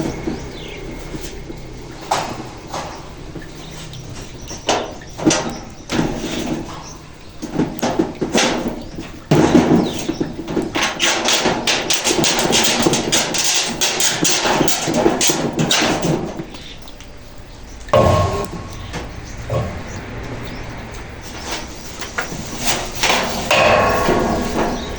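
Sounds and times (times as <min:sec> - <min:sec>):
knocking and rattling on roof: 0:00.0 - 0:16.6, 0:18.0 - 0:24.9.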